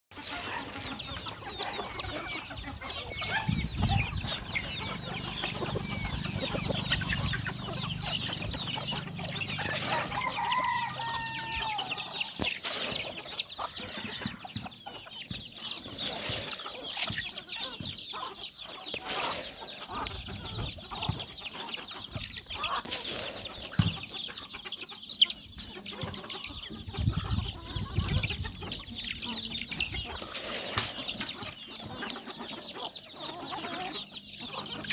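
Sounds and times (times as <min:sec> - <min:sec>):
chickens clucking: 0:00.1 - 0:34.9
chicks peeping: 0:00.1 - 0:34.9.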